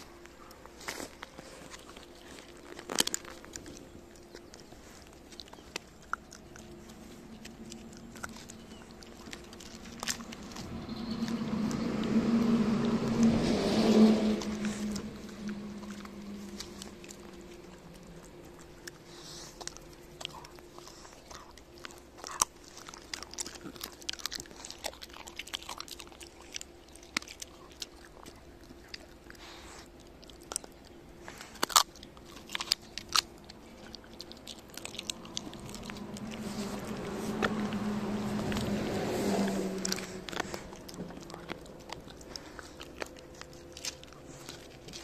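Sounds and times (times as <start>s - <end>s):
dog crunching bones: 0.0s - 45.0s
low hum: 0.0s - 45.0s.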